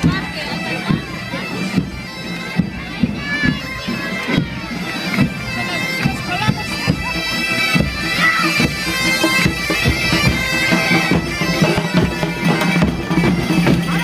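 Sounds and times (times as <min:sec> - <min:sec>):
wind instrument music with drone: 0:00.0 - 0:14.0.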